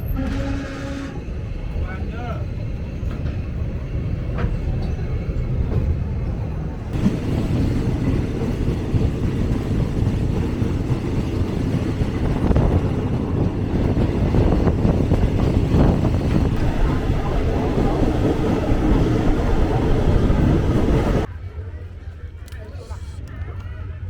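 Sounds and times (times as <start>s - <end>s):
train rumbling on rails: 0.0s - 21.4s.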